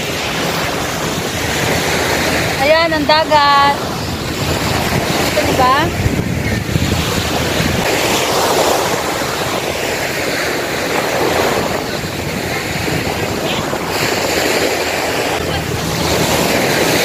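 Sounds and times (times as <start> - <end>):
sea waves breaking on beach: 0.0 - 17.0
wind buffeting microphone: 0.0 - 17.0.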